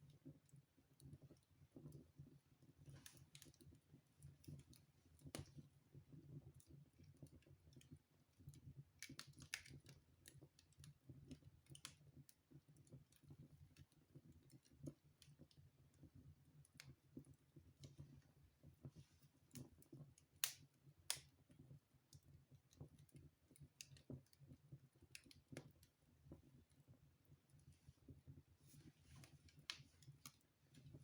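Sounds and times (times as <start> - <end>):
low steady fire rumble: 0.0 - 31.0
wood fire crackling: 0.0 - 31.0.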